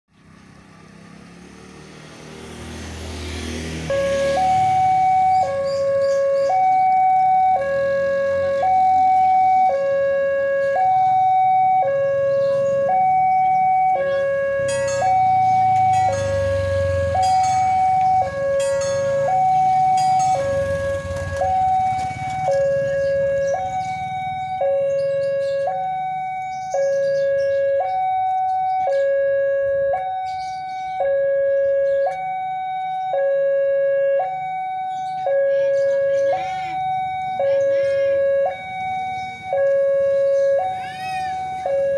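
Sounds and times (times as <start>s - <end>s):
level crossing two-tone alarm: 3.8s - 41.9s.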